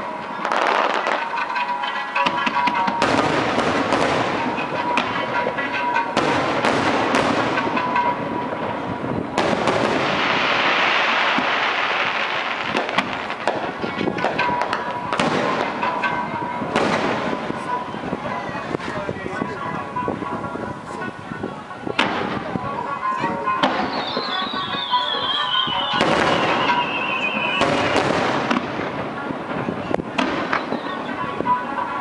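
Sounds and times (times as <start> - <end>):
fireworks bursting: 0.0 - 19.0, 21.9 - 32.0
fireworks crackling: 0.0 - 32.0.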